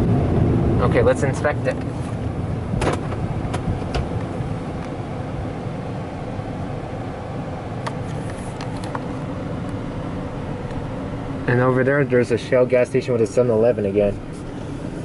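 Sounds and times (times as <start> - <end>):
car engine rumble from inside cabin: 0.0 - 15.0.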